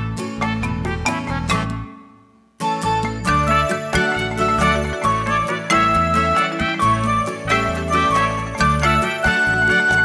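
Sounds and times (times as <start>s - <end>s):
instrumental music with beat and bass: 0.0s - 10.0s.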